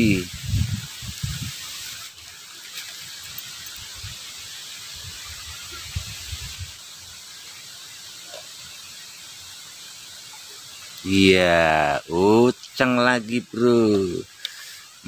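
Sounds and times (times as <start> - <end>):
water running in a ditch: 0.0 - 15.0.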